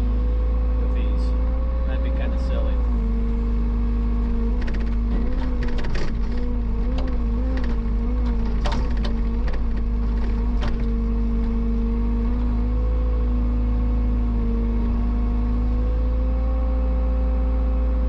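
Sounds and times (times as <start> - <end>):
excavator engine running: 0.0 - 14.7.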